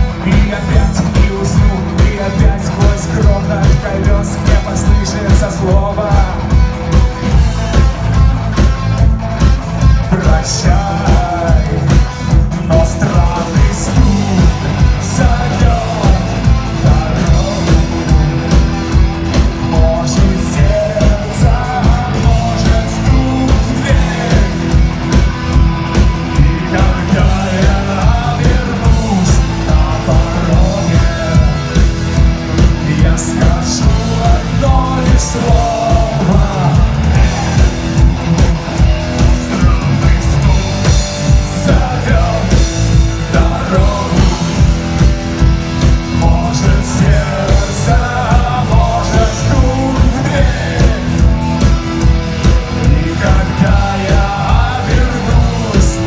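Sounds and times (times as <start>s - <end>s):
bass guitar: 0.0s - 56.0s
driving drum beat: 0.0s - 56.0s.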